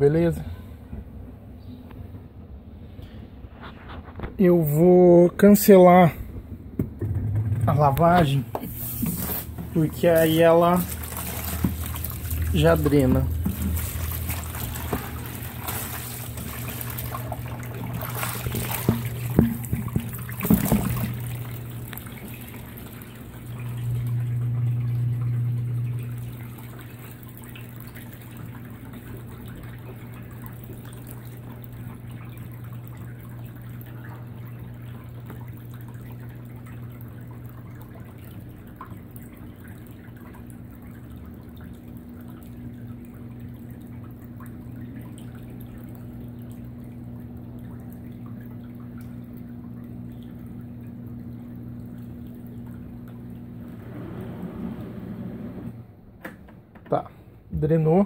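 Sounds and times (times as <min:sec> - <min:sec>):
drain pump humming: 0:03.6 - 0:58.0
water gushing into a basin: 0:07.0 - 0:55.8.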